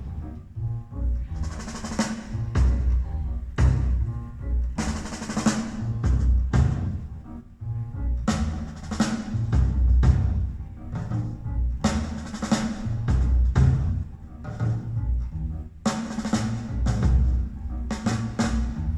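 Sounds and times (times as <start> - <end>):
drum-heavy music with deep bass: 1.3 - 7.2, 8.2 - 14.9, 15.9 - 18.9.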